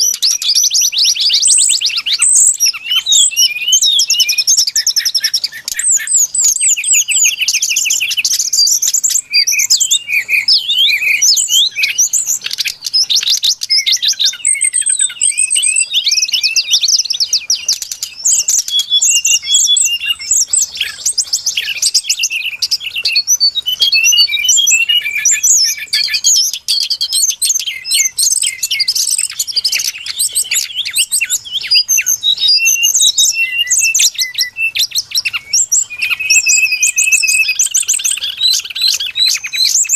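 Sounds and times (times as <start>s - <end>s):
bird song of rapid chirps: 0.0s - 39.9s.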